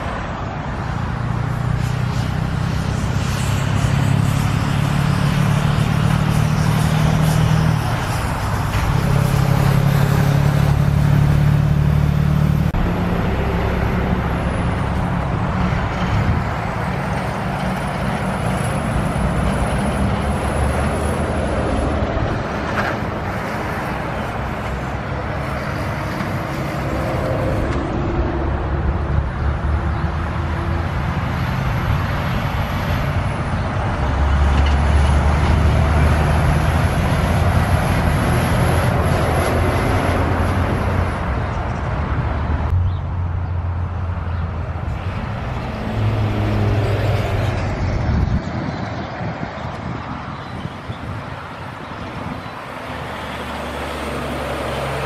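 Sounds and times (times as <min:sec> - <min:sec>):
diesel trucks driving past: 0:00.0 - 0:55.0
tyre and road noise: 0:00.0 - 0:55.0.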